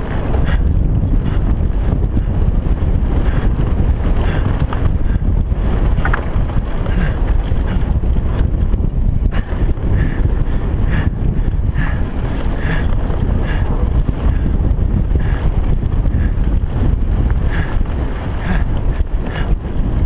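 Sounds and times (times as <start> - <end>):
mountain bike rumble and rattle: 0.0 - 20.0
wind buffeting microphone: 0.0 - 20.0.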